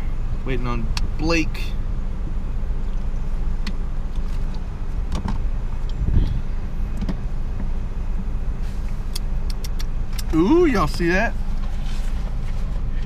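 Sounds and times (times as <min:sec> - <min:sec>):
car cabin low rumble: 0:00.0 - 0:13.0.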